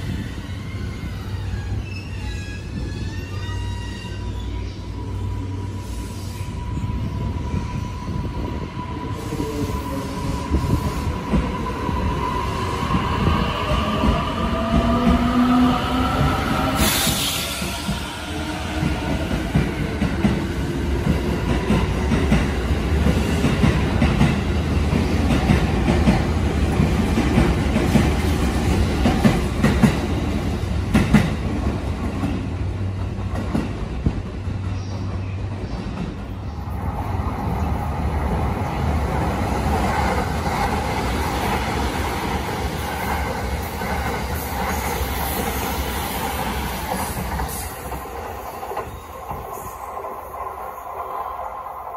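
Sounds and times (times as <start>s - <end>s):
train rumbling past: 0.0s - 51.9s.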